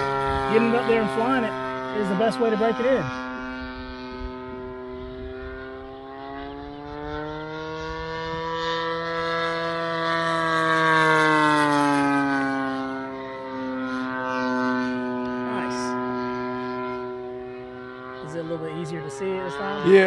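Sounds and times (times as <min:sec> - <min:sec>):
model plane engine at high throttle: 0:00.0 - 0:20.0.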